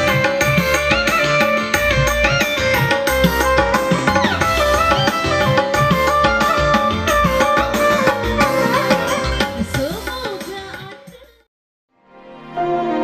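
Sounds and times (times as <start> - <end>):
keyboard melody with pitch bends: 0.0 - 10.6
steady drum beat: 0.0 - 11.3.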